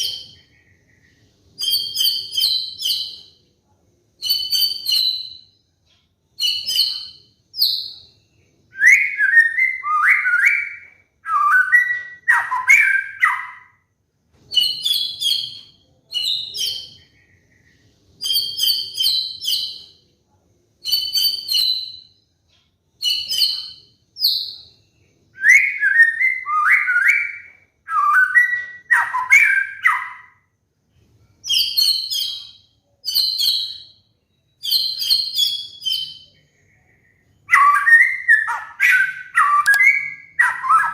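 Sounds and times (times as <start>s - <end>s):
bird song with high chirps and whistles: 0.0s - 3.5s, 4.2s - 20.1s, 20.8s - 30.6s, 31.4s - 40.9s.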